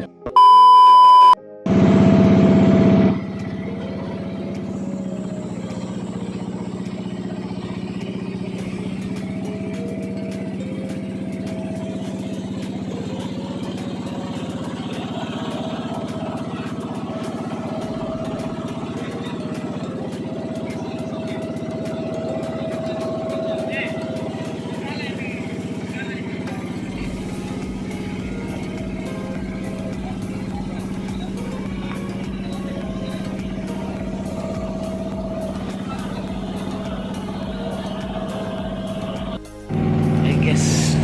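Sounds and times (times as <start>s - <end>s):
boat engine droning: 1.1s - 41.0s.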